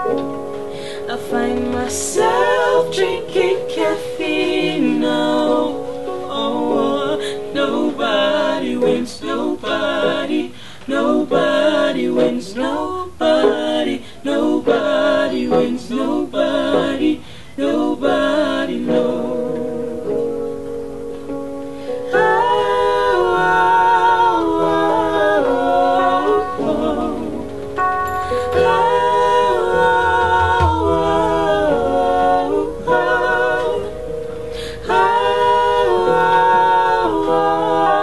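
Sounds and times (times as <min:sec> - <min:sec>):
acoustic instrumental accompaniment: 0:00.0 - 0:38.0
woman singing soul song: 0:00.9 - 0:18.2, 0:22.1 - 0:38.0.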